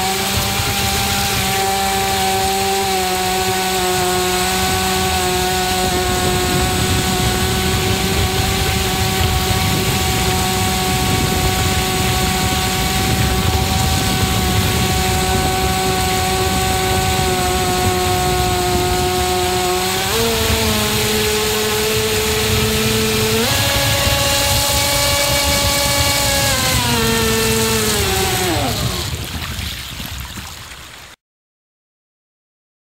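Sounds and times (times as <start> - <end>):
boat motor running: 0.0 - 30.4
rushing water: 0.0 - 31.2.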